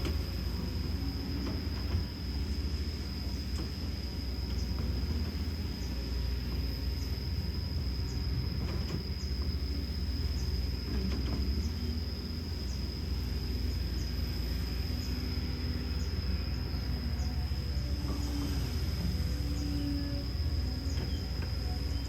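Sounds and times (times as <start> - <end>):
excavator diesel engine rumbling: 0.0 - 22.0
high-pitched whine: 0.0 - 22.0.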